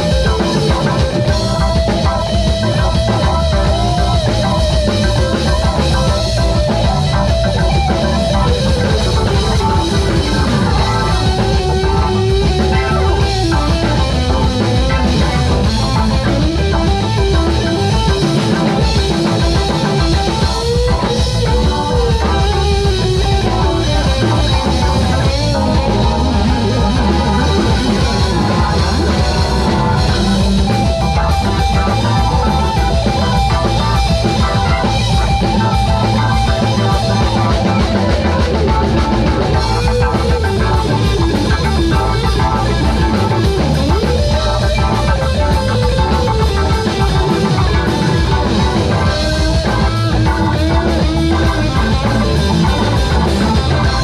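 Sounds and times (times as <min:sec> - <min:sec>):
bass guitar: 0:00.0 - 0:54.0
drum kit: 0:00.0 - 0:54.0
electric guitar: 0:00.0 - 0:54.0
keyboard: 0:00.0 - 0:54.0.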